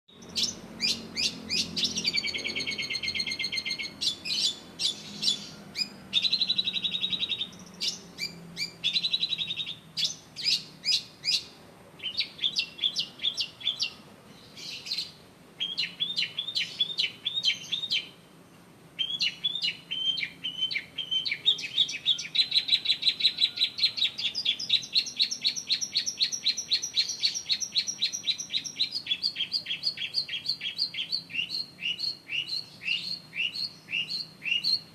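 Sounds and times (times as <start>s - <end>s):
bird singing high-pitched song: 0.1s - 34.9s.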